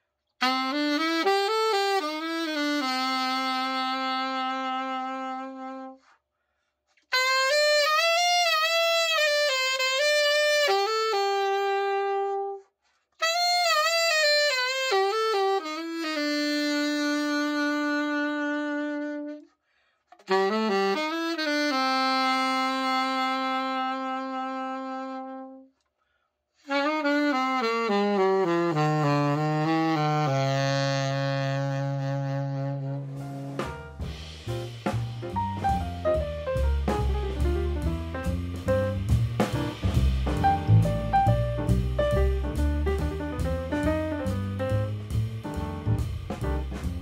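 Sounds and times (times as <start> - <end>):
alto saxophone solo: 0.4 - 6.2, 6.9 - 25.9, 26.6 - 47.0.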